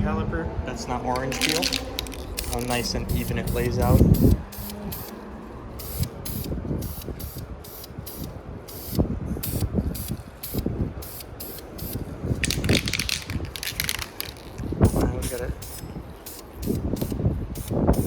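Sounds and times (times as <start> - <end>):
spray paint can hissing: 1.2 - 18.0.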